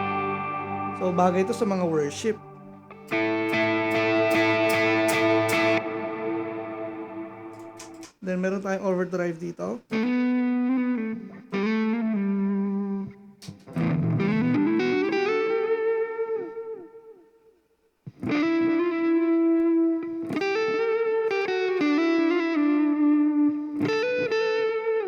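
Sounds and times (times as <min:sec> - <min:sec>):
overdriven electric guitar: 0:00.0 - 0:08.2, 0:09.9 - 0:17.3, 0:18.1 - 0:25.0.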